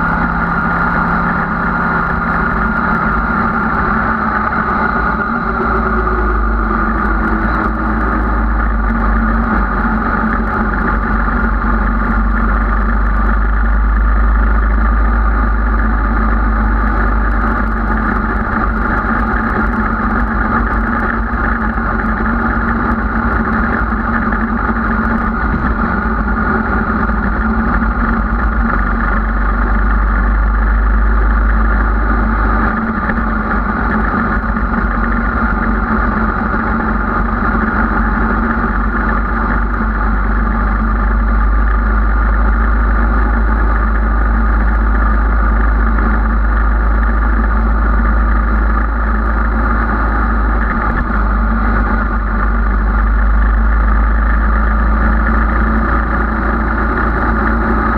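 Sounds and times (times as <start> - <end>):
motorcycle engine running: 0.0 - 57.9
wind rumble over windscreen: 0.0 - 57.9.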